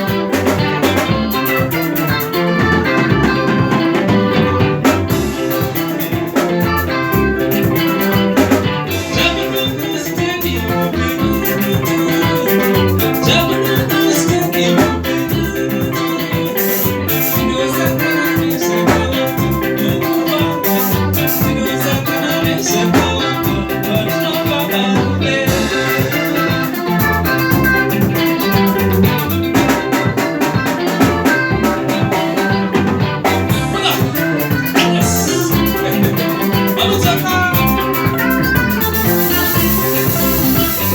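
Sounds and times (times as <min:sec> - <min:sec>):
band playing instrumental music: 0:00.0 - 0:40.9.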